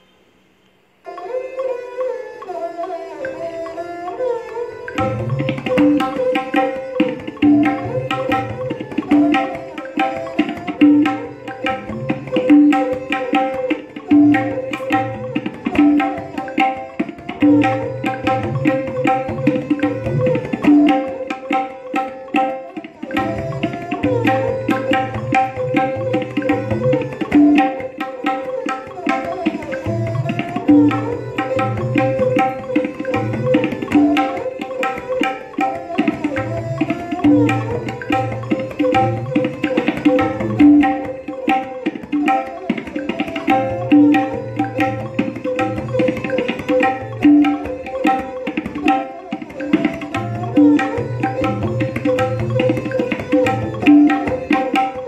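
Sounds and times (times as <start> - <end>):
tabla playing: 1.0 - 55.0.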